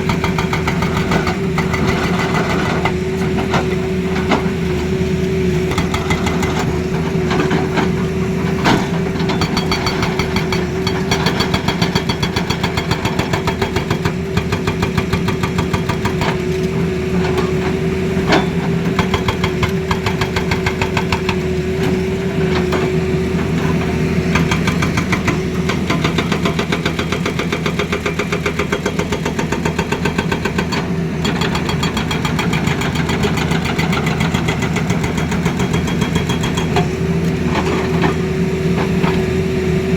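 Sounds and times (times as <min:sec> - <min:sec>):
excavator engine knocking: 0:00.0 - 0:37.8.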